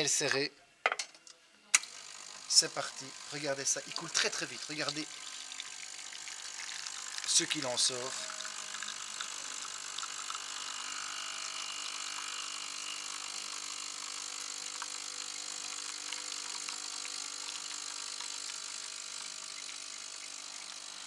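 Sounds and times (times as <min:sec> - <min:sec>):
espresso machine pump humming: 0:01.8 - 0:21.0.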